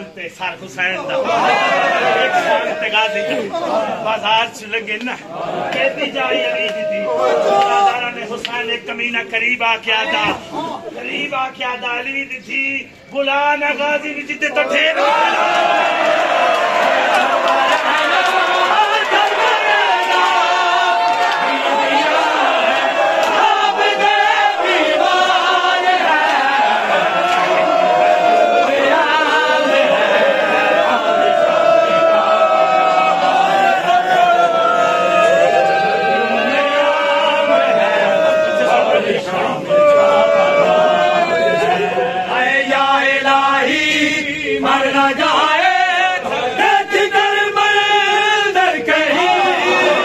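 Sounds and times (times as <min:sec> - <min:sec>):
men chanting a lament: 0:00.0 - 0:50.0.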